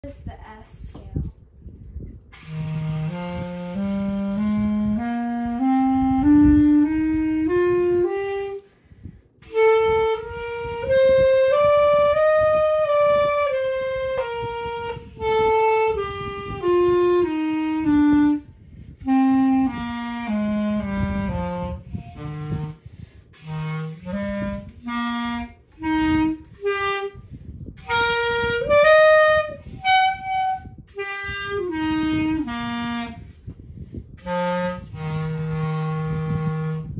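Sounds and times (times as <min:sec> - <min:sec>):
clarinet playing scales: 0:02.3 - 0:08.7, 0:09.4 - 0:36.9.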